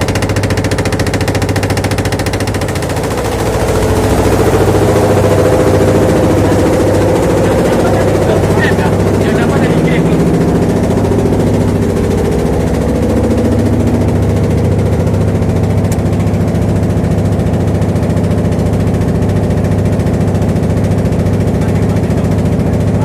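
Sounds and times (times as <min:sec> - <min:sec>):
small boat engine running: 0:00.0 - 0:23.0.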